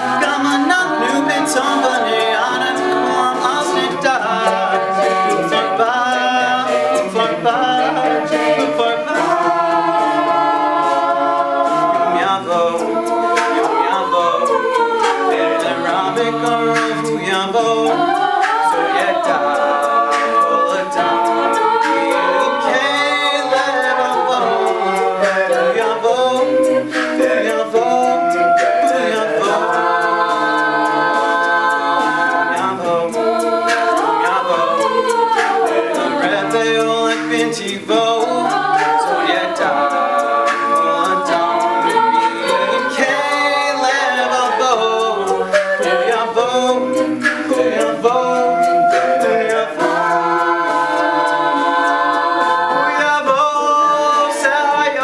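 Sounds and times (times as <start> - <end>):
a cappella group singing: 0.0 - 55.0
vocal percussion beat: 0.0 - 55.0.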